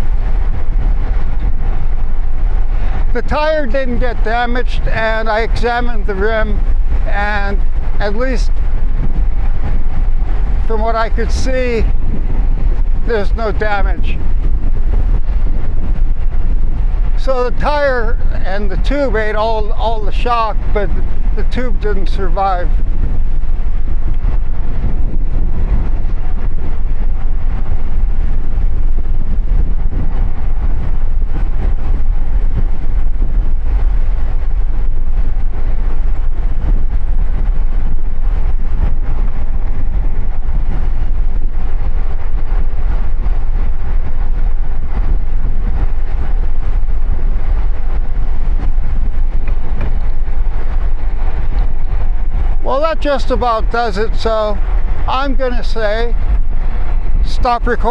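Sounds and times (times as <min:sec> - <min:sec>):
bicycle tyre rumble on road: 0:00.0 - 0:57.9
wind rushing over microphone: 0:00.0 - 0:57.9.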